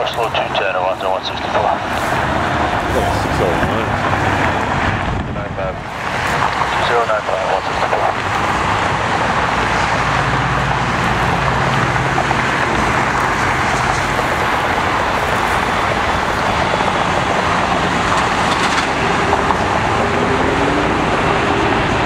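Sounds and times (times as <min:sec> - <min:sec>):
jet engine rushing: 0:00.0 - 0:22.0.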